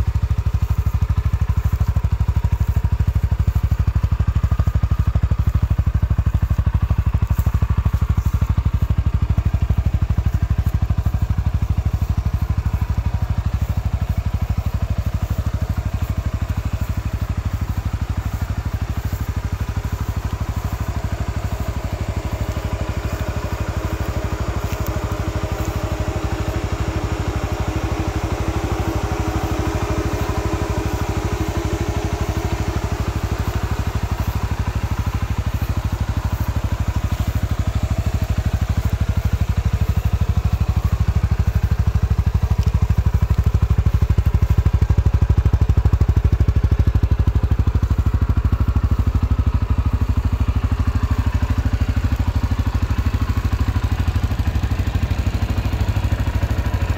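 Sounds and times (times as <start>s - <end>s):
atv engine idling: 0.0s - 56.9s.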